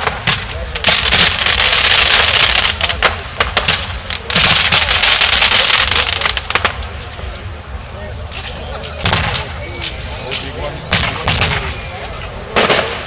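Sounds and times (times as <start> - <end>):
sharp firework cracks: 0.0 - 7.0, 8.3 - 11.8, 12.5 - 13.0
fireworks crackling: 0.0 - 13.0.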